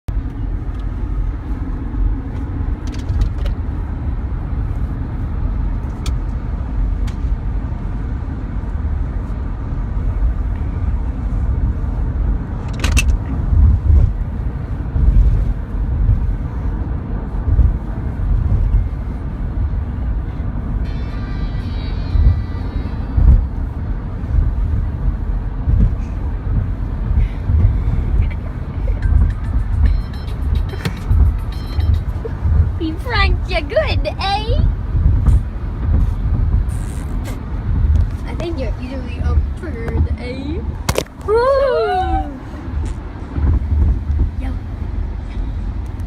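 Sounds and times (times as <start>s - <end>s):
low rumble: 0.1s - 46.0s.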